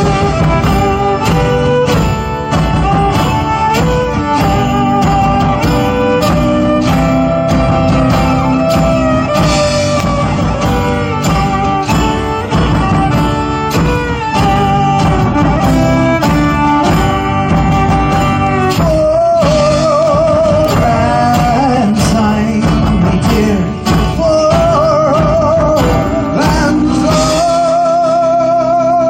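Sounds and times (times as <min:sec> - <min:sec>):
strummed acoustic guitar: 0:00.0 - 0:29.0
violin melody: 0:00.0 - 0:29.0.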